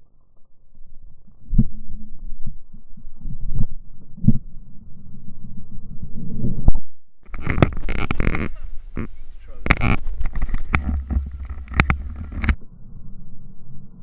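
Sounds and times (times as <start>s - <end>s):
low rumble of handling noise: 0.0s - 14.0s.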